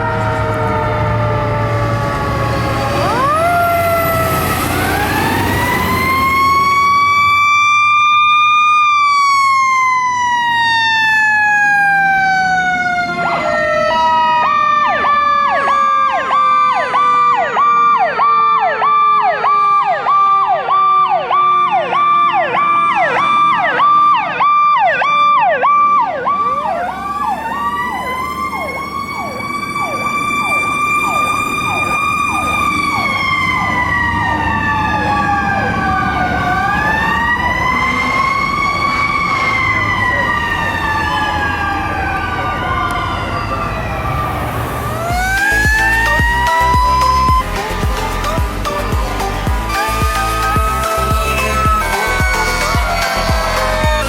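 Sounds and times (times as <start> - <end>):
fire truck siren wailing: 0.0 - 54.0
siren yelping rapidly: 0.0 - 54.0.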